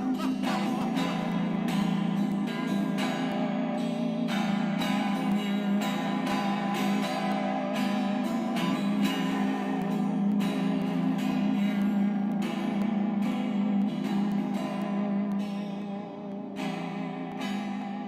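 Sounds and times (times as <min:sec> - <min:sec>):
plucked string notes: 0:00.0 - 0:18.0.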